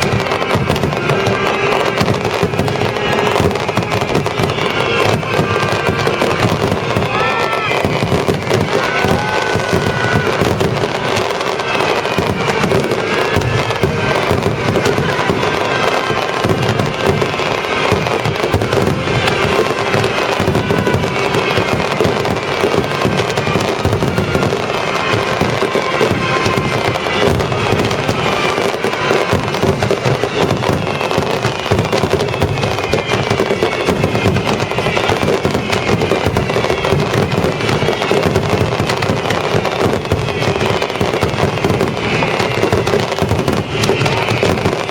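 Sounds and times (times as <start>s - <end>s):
fireworks bursts and crackling: 0.0s - 44.9s
orchestral music over loudspeakers: 0.0s - 44.9s.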